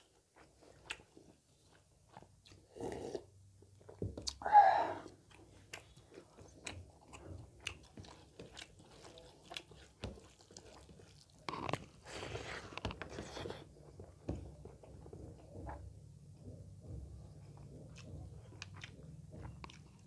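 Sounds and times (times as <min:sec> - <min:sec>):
chewing food: 0:00.0 - 0:04.4, 0:05.0 - 0:20.0.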